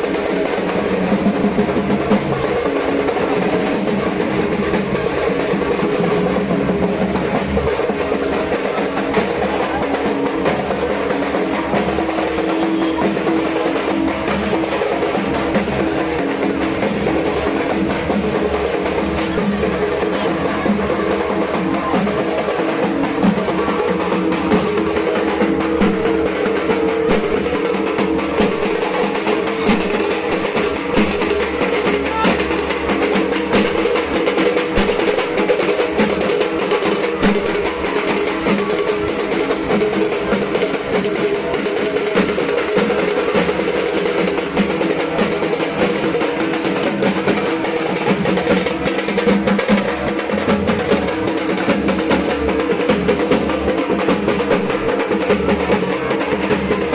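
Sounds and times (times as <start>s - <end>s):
barrel drum played with sticks: 0.0s - 56.9s.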